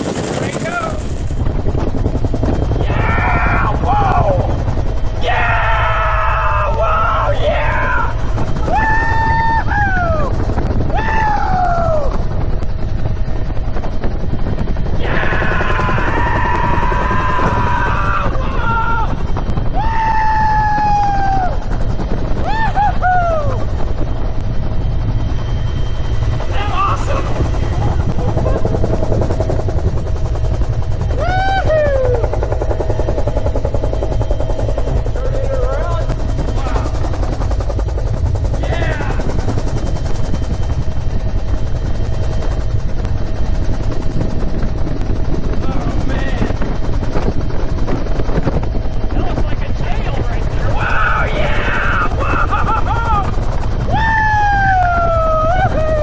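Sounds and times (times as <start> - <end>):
helicopter rotor thumping: 0.0 - 56.0
turbine drone: 0.0 - 56.0.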